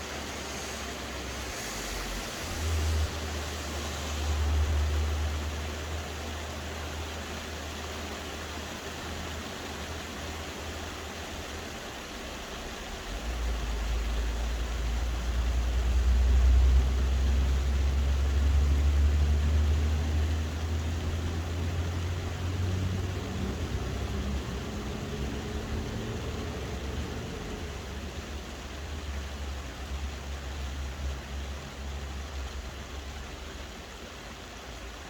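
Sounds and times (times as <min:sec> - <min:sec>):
soft rain hissing: 0:00.0 - 0:35.0.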